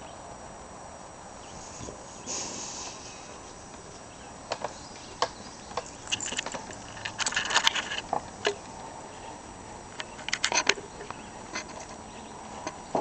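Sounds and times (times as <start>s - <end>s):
animals scuffling clicks and scrapes: 1.4s - 13.0s.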